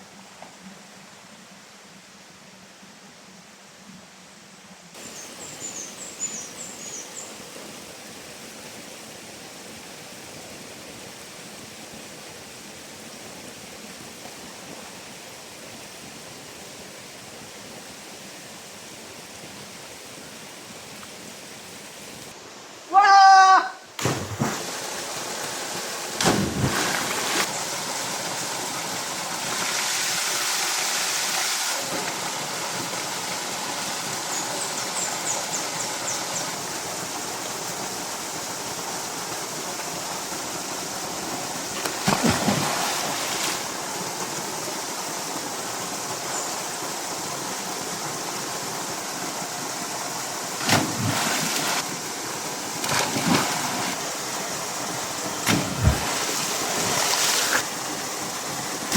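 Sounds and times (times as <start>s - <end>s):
water rushing: 4.9s - 58.9s.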